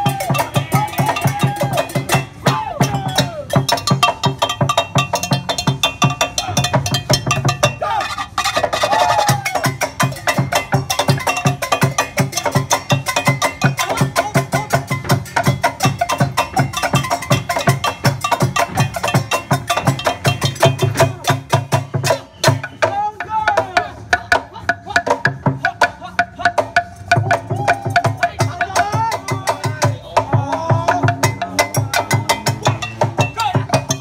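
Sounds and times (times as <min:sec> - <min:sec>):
voices calling out: 0:00.0 - 0:34.0.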